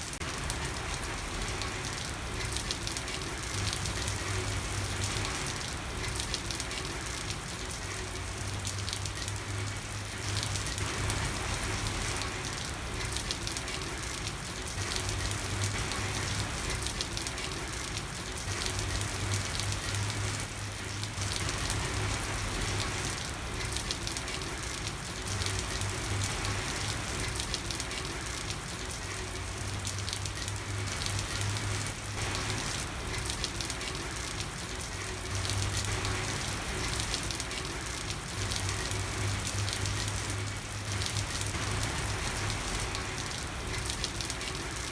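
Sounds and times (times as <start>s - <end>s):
rain falling on street: 0.0s - 44.9s.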